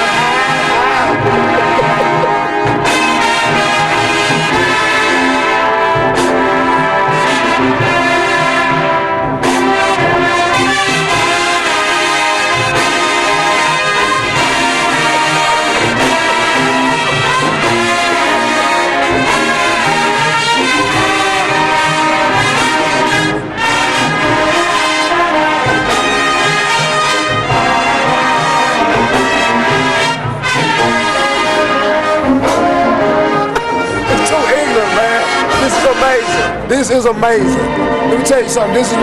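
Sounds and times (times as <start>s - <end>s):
marching band playing brass music: 0.0s - 39.0s.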